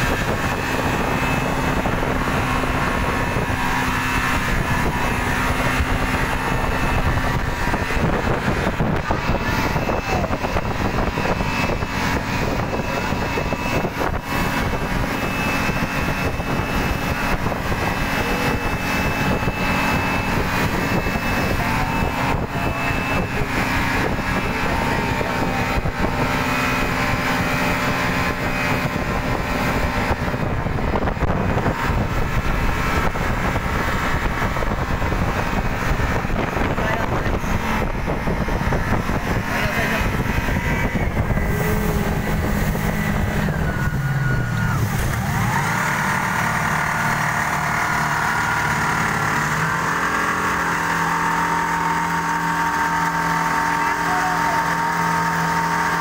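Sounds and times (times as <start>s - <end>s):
motorboat engine running: 0.0s - 56.0s
water rushing off hull: 0.0s - 56.0s.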